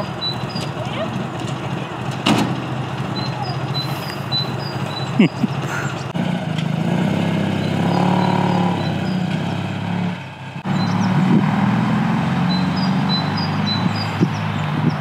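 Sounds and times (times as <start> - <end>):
birds chirping: 0.0 - 6.2, 7.2 - 15.0
van engine running: 0.0 - 15.0.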